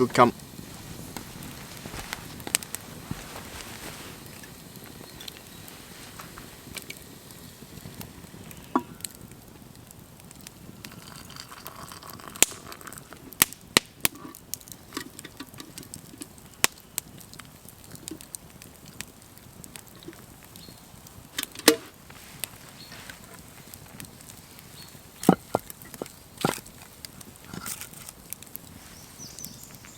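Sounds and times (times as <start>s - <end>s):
campfire crackling and popping: 0.0s - 29.9s
low hiss of burning: 0.0s - 29.9s.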